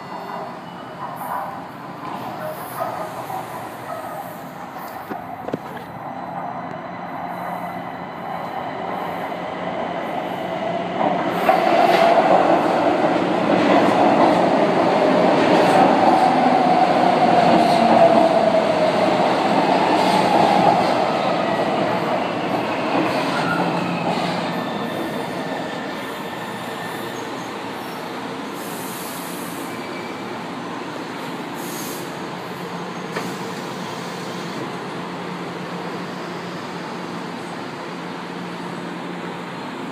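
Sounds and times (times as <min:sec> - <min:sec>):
train running on viaduct: 0:00.0 - 0:39.9.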